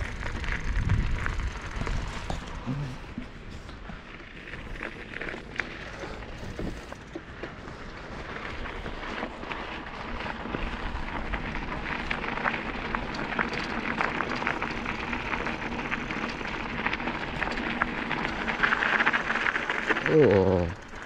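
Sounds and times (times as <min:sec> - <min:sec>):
bicycle tyres crunching gravel: 0:00.0 - 0:21.0.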